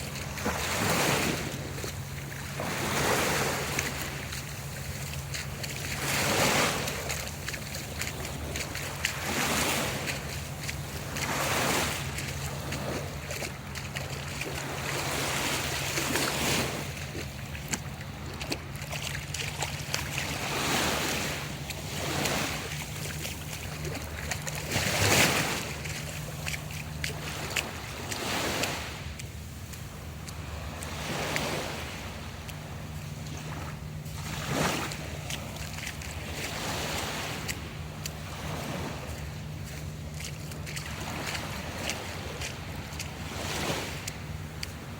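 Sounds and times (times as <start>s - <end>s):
bare feet splashing in water: 0.0s - 44.9s
small waves washing: 0.0s - 44.9s.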